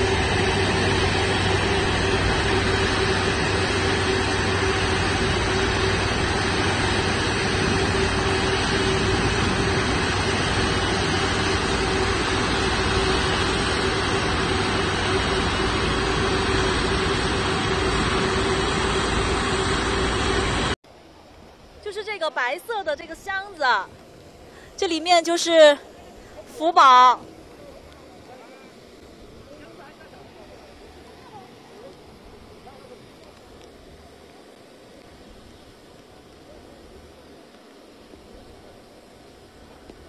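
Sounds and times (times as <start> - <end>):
jet engines running: 0.0 - 40.0.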